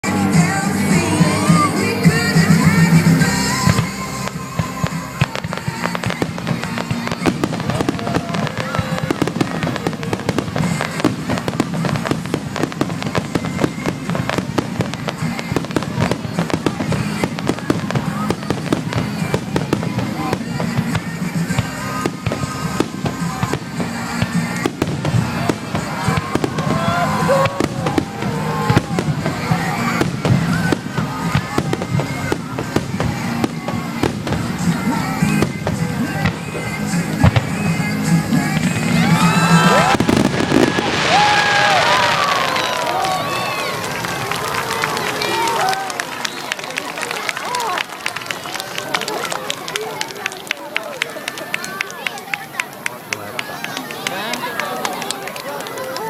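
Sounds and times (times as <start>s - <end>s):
fireworks bursting: 0.0s - 56.0s
music: 0.0s - 56.0s.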